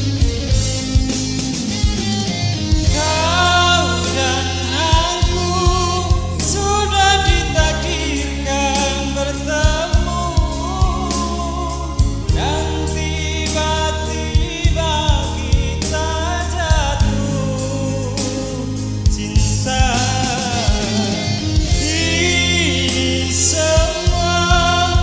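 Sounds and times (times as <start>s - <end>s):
live pop music: 0.0s - 25.0s.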